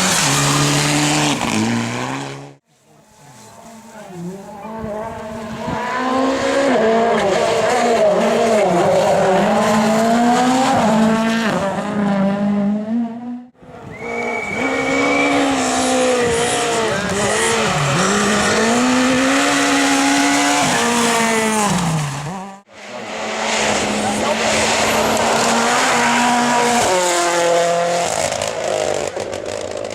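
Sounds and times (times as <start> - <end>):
rally car engine revving hard: 0.0 - 2.6, 3.7 - 13.5, 14.6 - 29.9.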